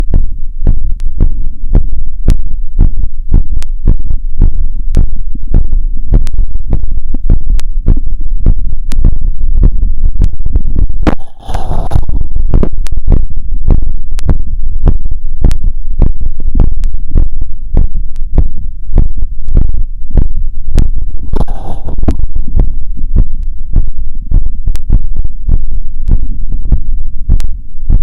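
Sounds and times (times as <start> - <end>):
fast heartbeat through stethoscope: 0.0 - 28.0
low rumble: 0.0 - 28.0.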